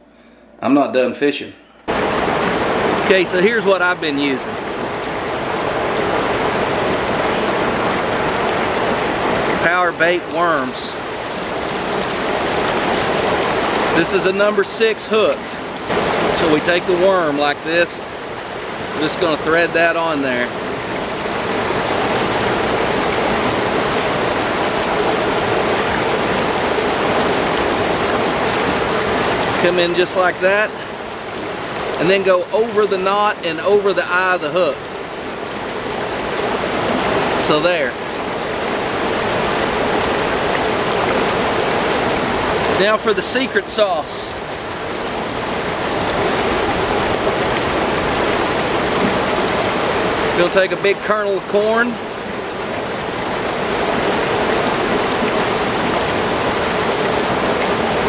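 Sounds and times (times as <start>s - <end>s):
river rushing: 1.8s - 58.0s.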